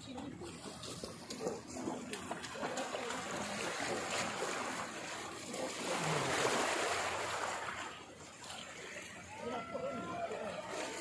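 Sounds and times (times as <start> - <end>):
running splashing water: 0.1 - 11.0.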